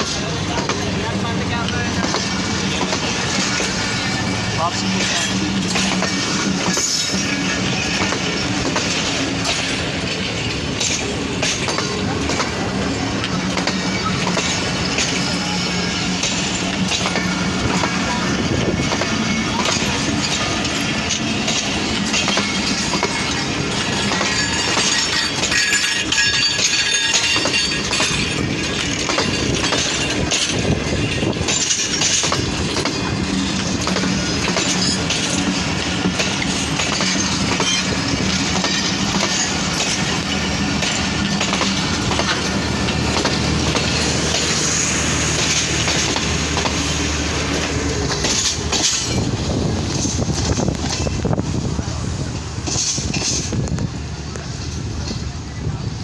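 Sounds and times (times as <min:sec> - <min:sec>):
clickety-clack over rail joints: 0:00.0 - 0:56.0
train wheels on rails: 0:00.0 - 0:56.0.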